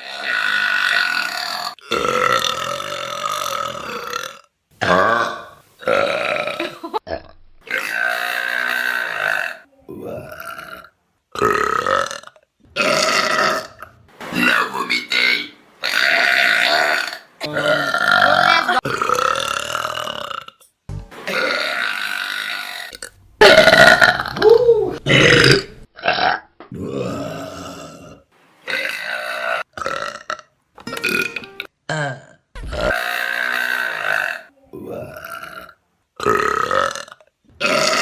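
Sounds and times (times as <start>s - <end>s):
loud human burps: 0.0s - 15.0s, 16.4s - 20.6s, 21.3s - 31.3s, 31.9s - 38.0s.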